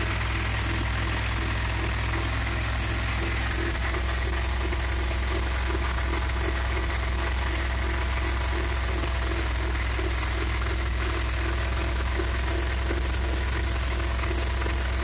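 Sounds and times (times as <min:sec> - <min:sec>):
van engine idling: 0:00.0 - 0:15.0.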